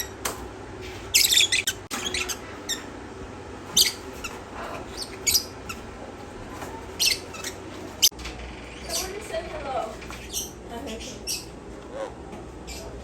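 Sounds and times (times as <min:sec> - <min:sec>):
parrots squawking: 0:01.0 - 0:03.0, 0:03.6 - 0:05.9, 0:06.6 - 0:13.0.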